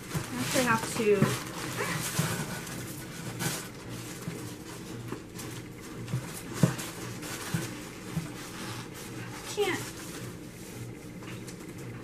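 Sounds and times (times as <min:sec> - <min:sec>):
packaging rustling and crinkling: 0:00.0 - 0:11.6.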